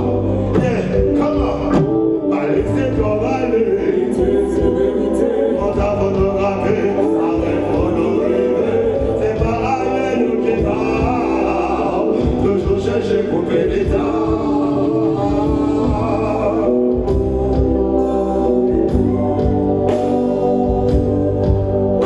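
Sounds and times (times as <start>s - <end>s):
man singing lead: 0.0s - 21.6s
backing singers: 0.0s - 22.0s
drum kit: 0.0s - 22.0s
keyboard: 0.0s - 22.0s.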